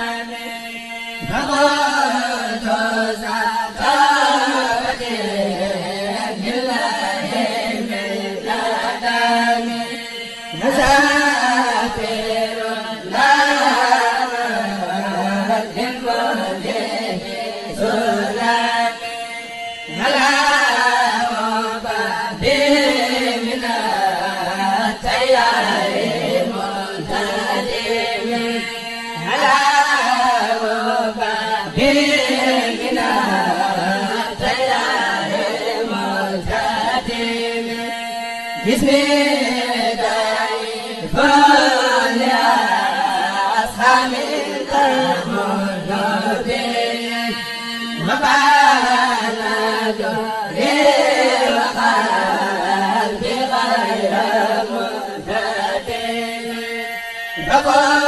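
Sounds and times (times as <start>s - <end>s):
group chanting without instruments: 0.0s - 58.0s.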